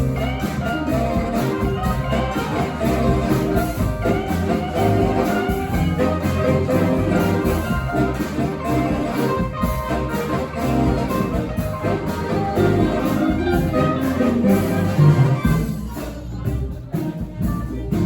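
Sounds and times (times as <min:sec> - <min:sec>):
brass street band playing: 0:00.0 - 0:18.0.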